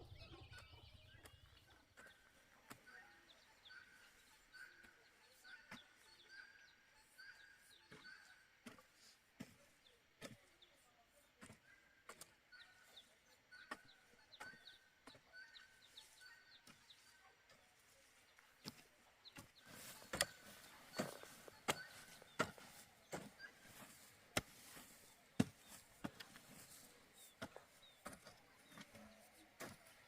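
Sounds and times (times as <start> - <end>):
bird chirping: 0.0 - 30.0.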